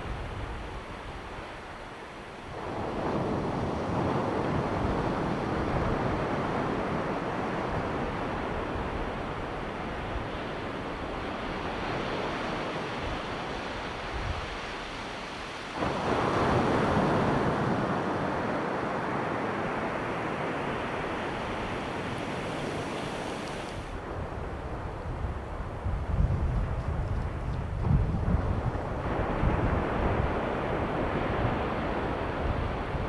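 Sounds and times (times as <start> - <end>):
waves breaking on beach: 0.0 - 25.8, 28.4 - 33.0.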